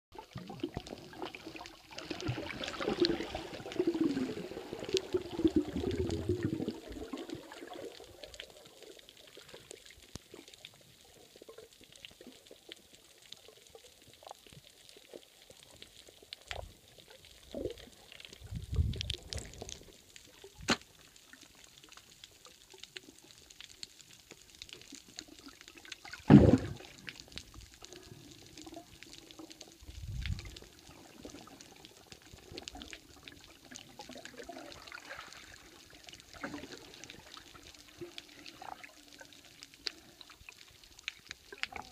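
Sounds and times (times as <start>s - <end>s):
underwater bubbling and churning: 0.2s - 41.9s.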